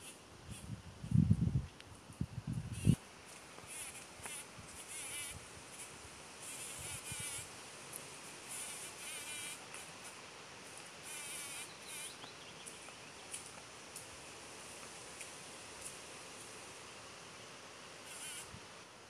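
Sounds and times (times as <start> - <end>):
insects buzzing: 2.0 - 19.0.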